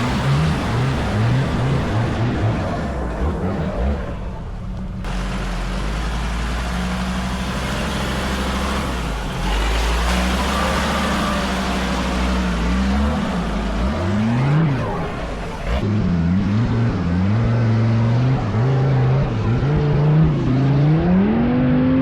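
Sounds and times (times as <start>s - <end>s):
off-road vehicle engine humming: 0.0s - 22.0s.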